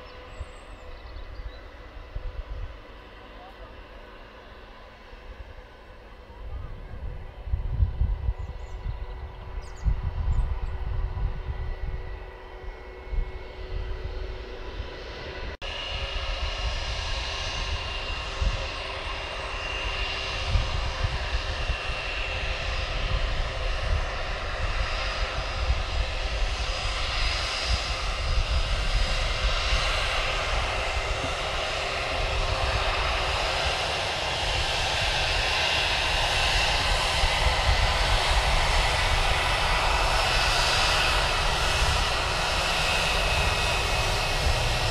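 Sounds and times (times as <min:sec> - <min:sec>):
jet engines at take-off thrust: 0:00.0 - 0:44.9.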